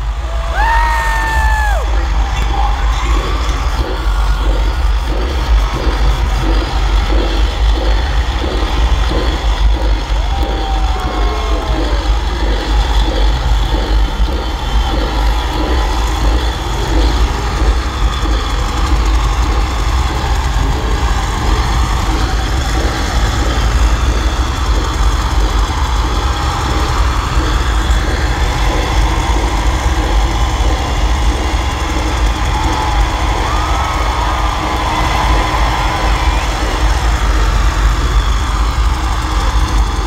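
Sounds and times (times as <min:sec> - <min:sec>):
crowd din: 0:00.0 - 0:40.0
deep rumble: 0:00.0 - 0:40.0.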